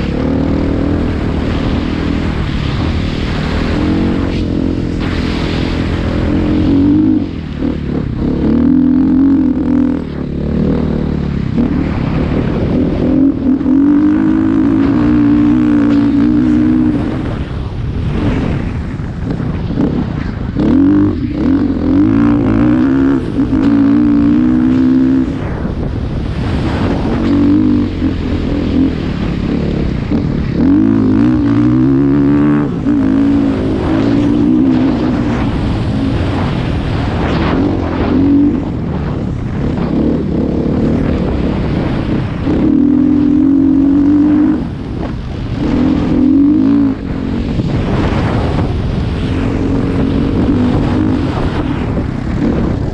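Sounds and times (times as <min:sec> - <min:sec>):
vehicle engine revving: 0:00.0 - 0:52.9
wind noise: 0:00.0 - 0:52.9.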